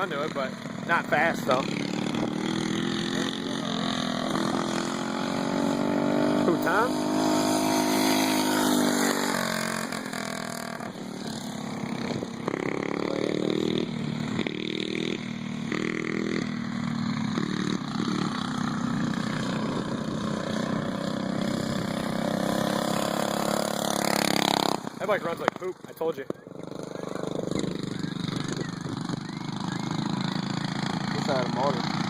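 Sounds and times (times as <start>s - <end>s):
mini bike engines revving: 0.0s - 32.0s.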